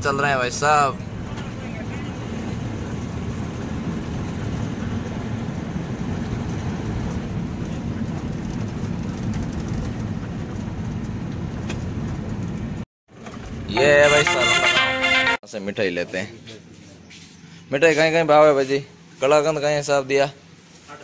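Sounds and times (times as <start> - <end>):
vehicle road and engine rumble: 0.0 - 15.0, 15.6 - 21.0.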